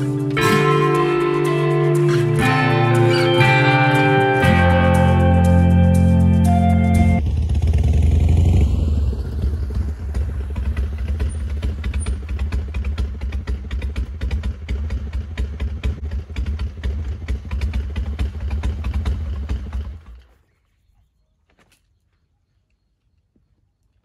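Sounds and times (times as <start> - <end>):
motorcycle idling: 0.0 - 20.4.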